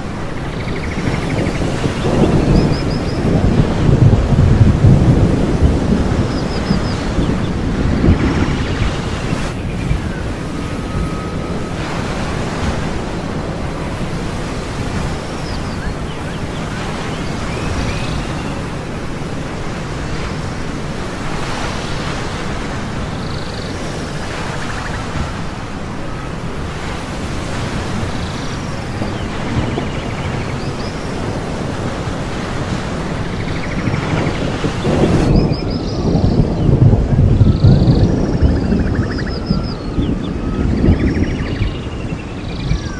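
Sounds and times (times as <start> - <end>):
ocean surf washing: 0.0 - 42.9.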